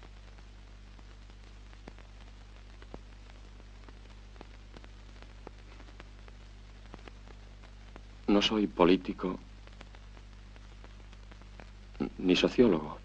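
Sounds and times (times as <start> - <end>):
crackles and clicks: 0.0 - 13.0
film soundtrack hiss: 0.0 - 13.0.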